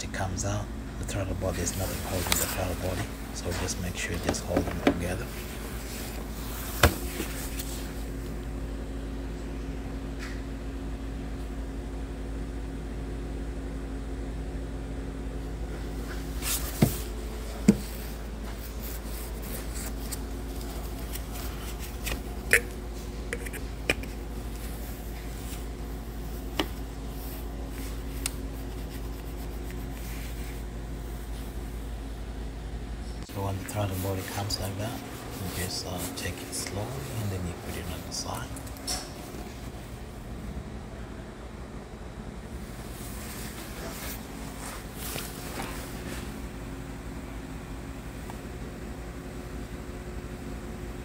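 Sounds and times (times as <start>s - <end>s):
steady hum: 0.0s - 51.0s.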